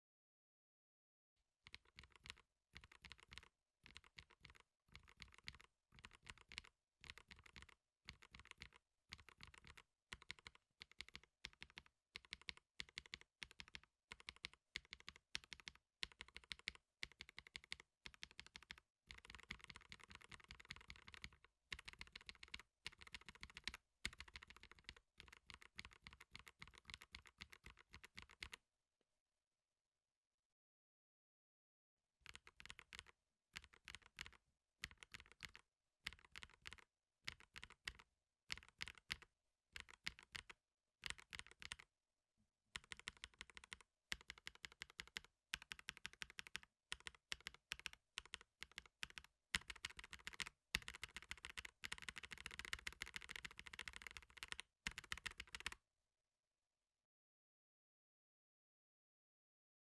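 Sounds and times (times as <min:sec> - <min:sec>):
mechanical keyboard typing: 0:01.7 - 0:28.6, 0:32.3 - 0:41.9, 0:42.8 - 0:55.8.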